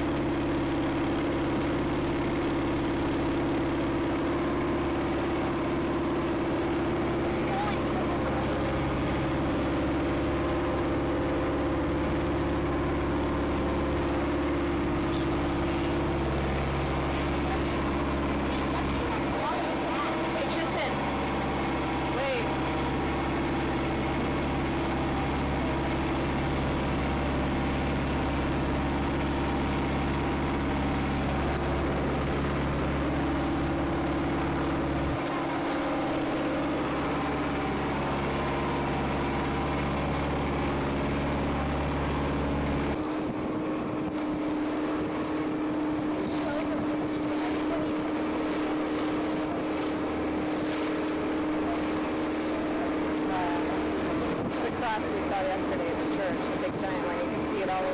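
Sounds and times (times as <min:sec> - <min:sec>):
boat engine droning: 0:00.0 - 0:57.9
wind and water hiss: 0:00.0 - 0:57.9.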